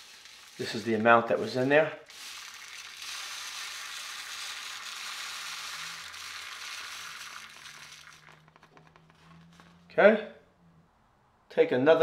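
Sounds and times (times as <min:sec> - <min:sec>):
charcoal granules pouring through funnel: 0:00.0 - 0:09.8.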